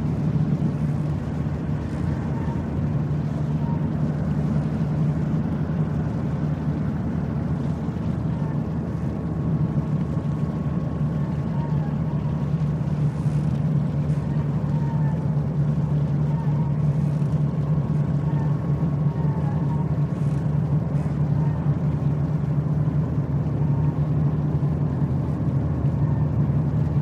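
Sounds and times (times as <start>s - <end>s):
low engine drone: 0.0s - 27.0s.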